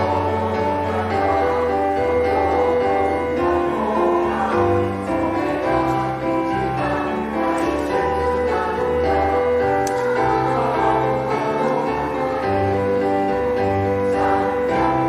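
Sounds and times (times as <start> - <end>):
choir singing: 0.0 - 15.0
piano accompaniment: 0.0 - 15.0.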